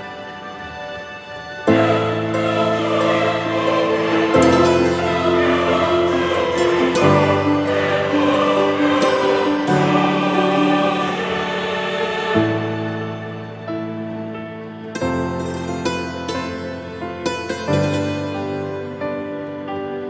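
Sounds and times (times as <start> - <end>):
choir holding sustained chords: 0.0 - 20.0.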